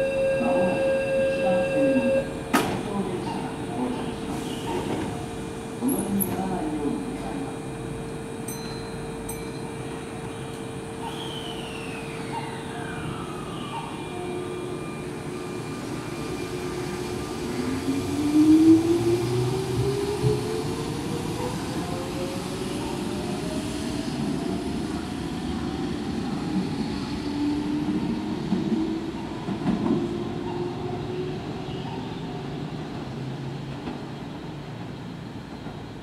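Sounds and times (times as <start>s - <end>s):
rumble of train cars: 0.0s - 36.0s.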